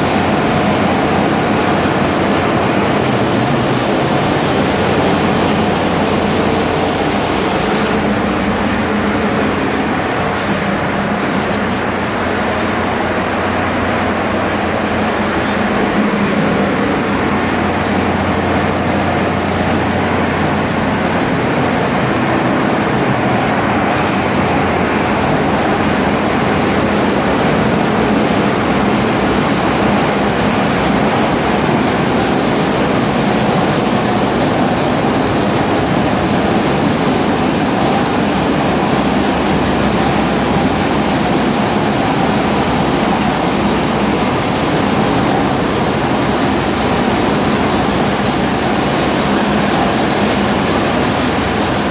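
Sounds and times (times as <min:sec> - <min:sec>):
engine room machinery drone: 0:00.0 - 0:51.9.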